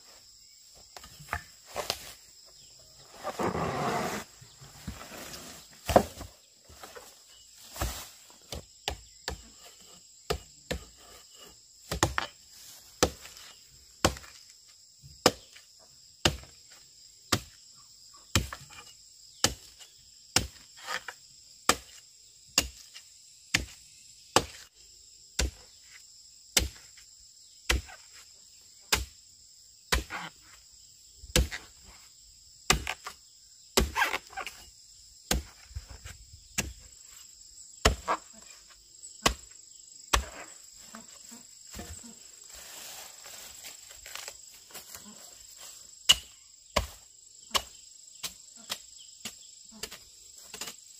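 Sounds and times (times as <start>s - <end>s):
insects buzzing: 0.0s - 50.9s.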